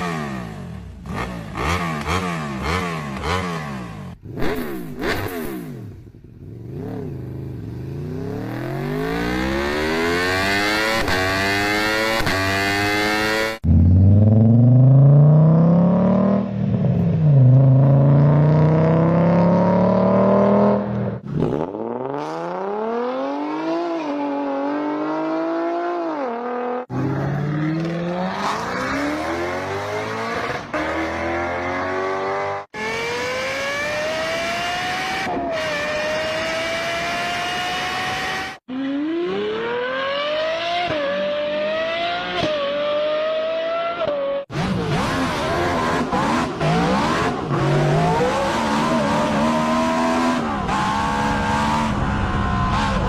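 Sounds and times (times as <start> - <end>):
car engines accelerating hard: 8.0 - 53.0.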